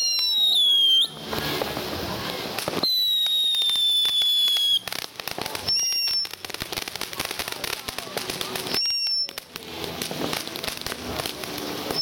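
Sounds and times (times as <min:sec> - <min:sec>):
firework crackling: 0:00.0 - 0:12.0
firework hissing: 0:00.0 - 0:12.0
firework whistling: 0:00.0 - 0:12.0.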